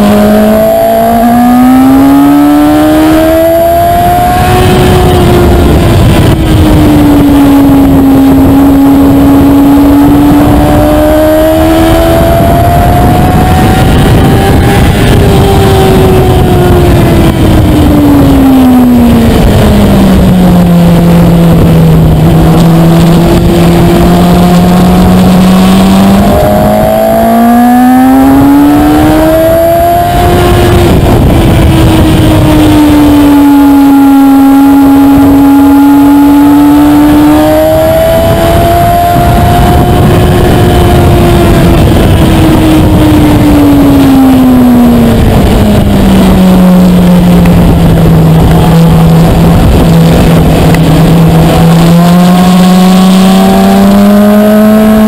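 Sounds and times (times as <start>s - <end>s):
motorcycle engine at speed: 0.0s - 55.0s
wind noise: 0.0s - 55.0s.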